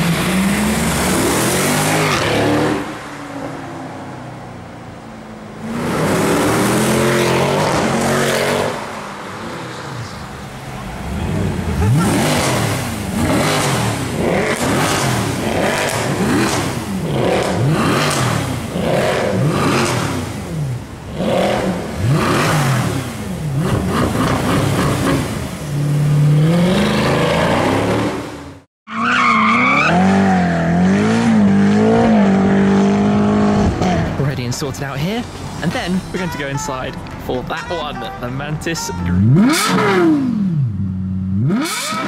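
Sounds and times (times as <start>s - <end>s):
car engine revving: 0.0s - 28.7s, 29.4s - 42.0s.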